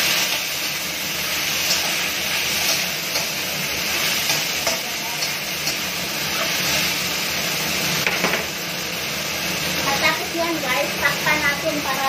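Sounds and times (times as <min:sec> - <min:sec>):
mushrooms sizzling in oil: 0:00.0 - 0:12.0.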